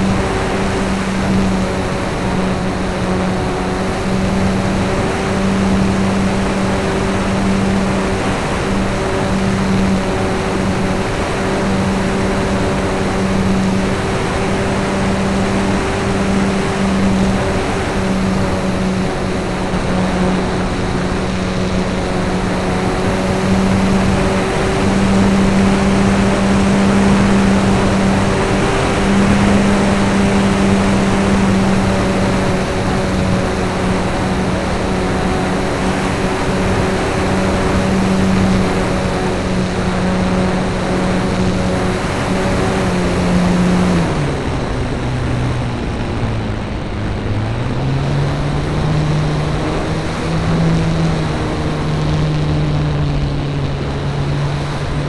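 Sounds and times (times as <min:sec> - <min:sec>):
model aircraft motor buzzing: 0:00.0 - 0:55.0
wind noise: 0:00.0 - 0:55.0.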